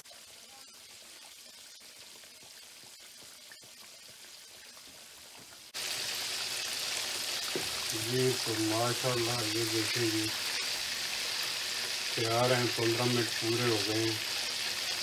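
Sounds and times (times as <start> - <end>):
chicken deep-frying in oil: 0.0 - 15.0
oil crackles and pops: 0.0 - 15.0.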